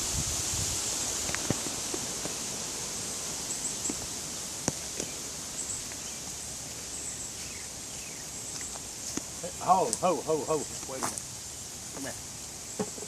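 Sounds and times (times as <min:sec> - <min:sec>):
steady outdoor background hiss: 0:00.0 - 0:13.0.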